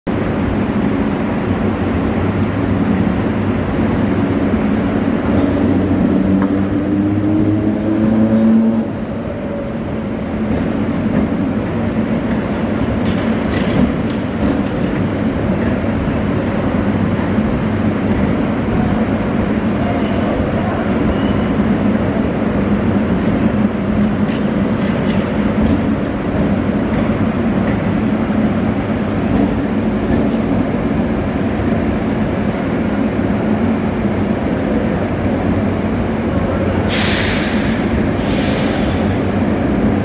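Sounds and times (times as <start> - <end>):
train wheels rumbling: 0.1 - 40.0.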